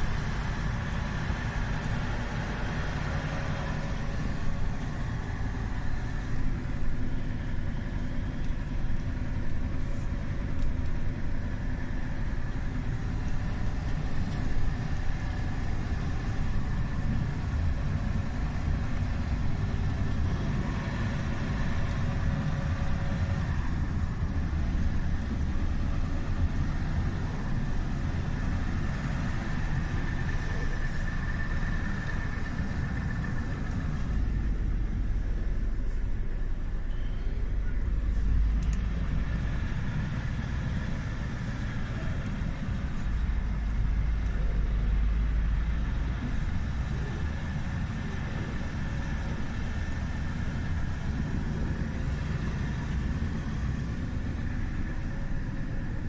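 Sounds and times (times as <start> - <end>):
truck diesel engine rumbling: 0.0 - 56.0.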